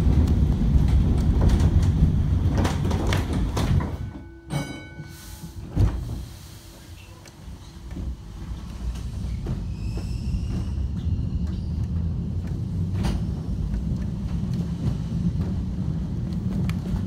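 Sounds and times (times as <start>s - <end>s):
tram rumbling along track: 0.0s - 17.0s.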